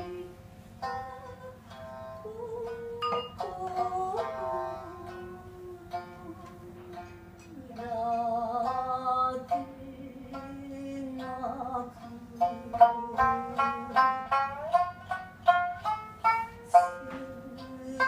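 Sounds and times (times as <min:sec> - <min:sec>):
woman singing: 0:00.0 - 0:15.2, 0:16.4 - 0:18.0
shamisen plucking: 0:00.0 - 0:18.0.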